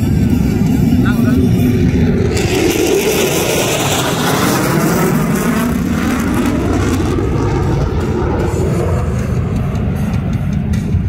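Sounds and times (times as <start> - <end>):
fighter jets flying overhead: 0.0 - 11.0.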